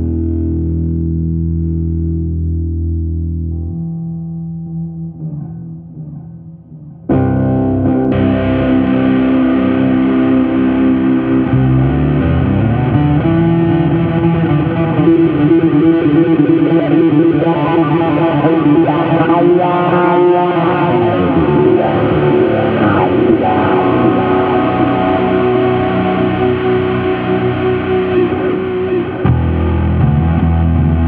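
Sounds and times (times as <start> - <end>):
electric bass played fingerstyle: 0.0 - 31.0.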